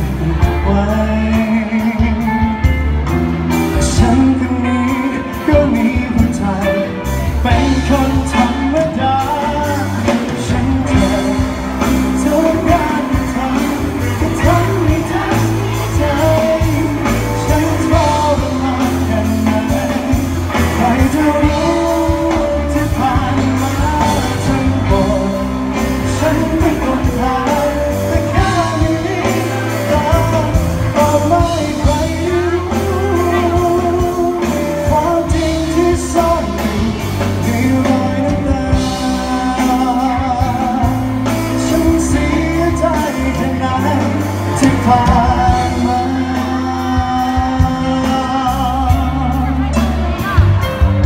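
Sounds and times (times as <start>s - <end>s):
lead vocal singing: 0.0s - 51.0s
live band playing pop ballad: 0.0s - 51.0s.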